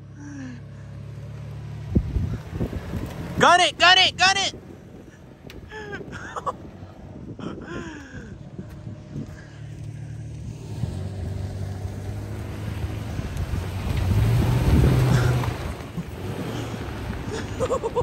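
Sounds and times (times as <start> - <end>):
off-road vehicle engine revving: 0.0 - 7.4, 8.0 - 18.0.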